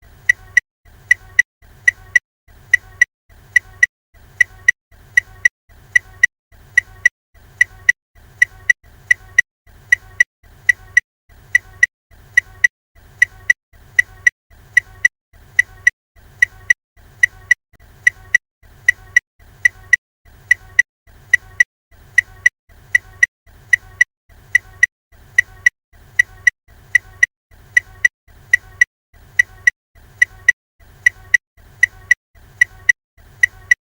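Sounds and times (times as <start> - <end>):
indicator ticker clicking: 0.2 - 33.8.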